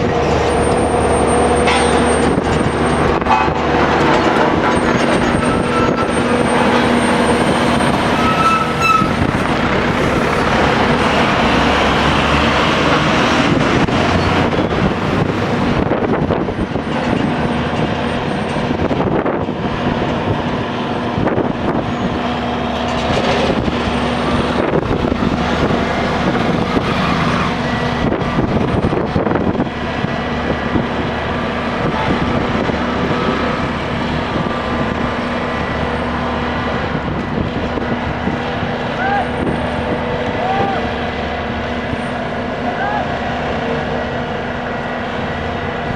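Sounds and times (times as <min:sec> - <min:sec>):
diesel engine running loudly: 0:00.0 - 0:45.9.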